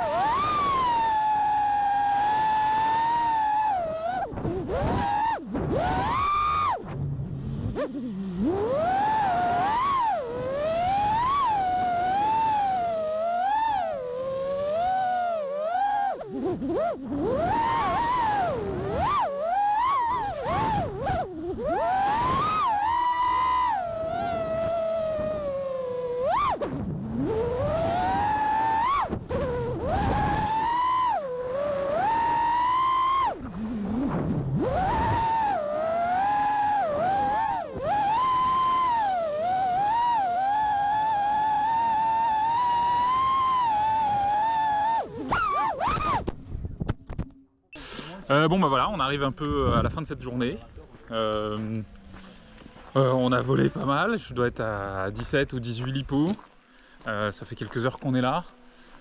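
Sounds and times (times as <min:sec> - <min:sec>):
drone motors whining: 0:00.0 - 0:48.5.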